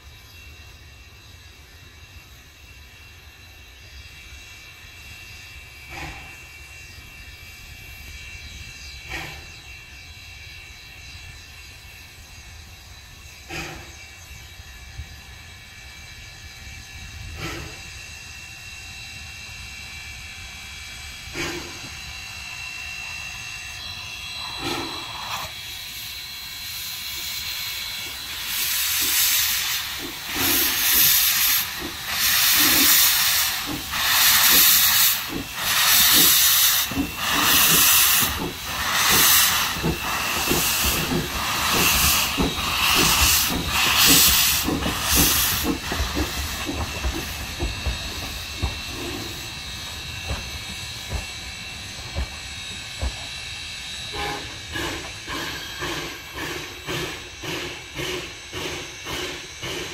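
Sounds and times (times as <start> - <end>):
steam locomotive hissing blasts: 0.0 - 59.9.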